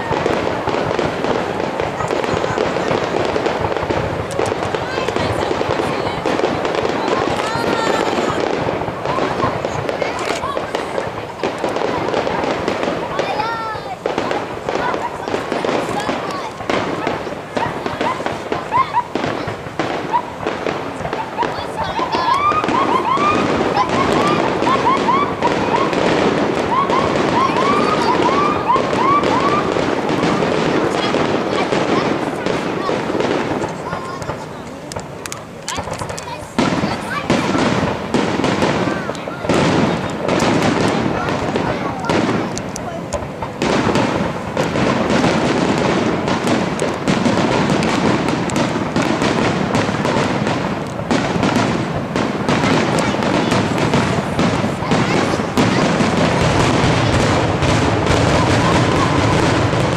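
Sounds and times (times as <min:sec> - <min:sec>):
fireworks crackling: 0:00.0 - 0:59.9
fireworks whistling: 0:00.0 - 0:59.9.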